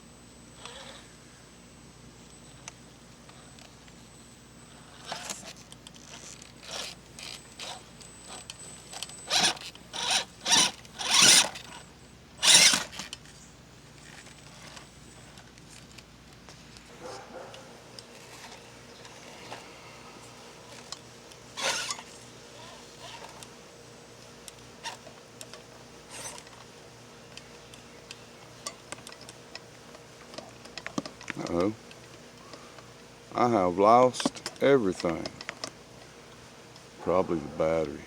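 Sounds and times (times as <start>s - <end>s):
electric motor and gears whirring: 0.0s - 1.4s, 2.1s - 35.7s.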